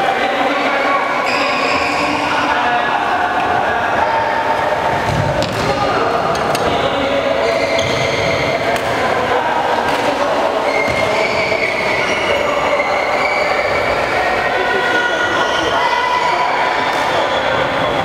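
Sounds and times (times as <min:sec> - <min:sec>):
indoor hall din: 0:00.0 - 0:18.0.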